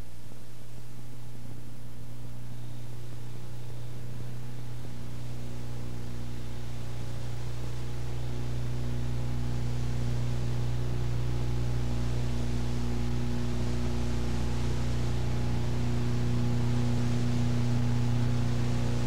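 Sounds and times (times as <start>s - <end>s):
electrical mains hum: 0.0s - 19.0s
tape hiss: 0.0s - 19.0s.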